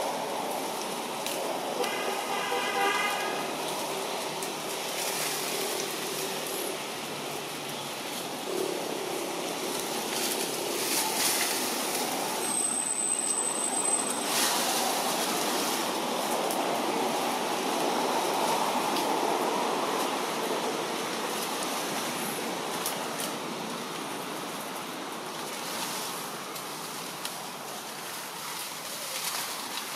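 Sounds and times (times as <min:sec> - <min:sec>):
rushing outdoor background noise: 0:00.0 - 0:29.9.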